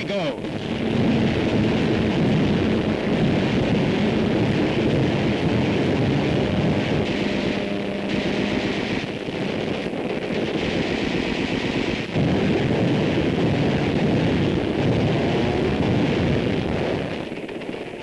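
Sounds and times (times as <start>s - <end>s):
anti-aircraft gunfire: 0.0s - 18.0s
explosions: 0.4s - 18.0s.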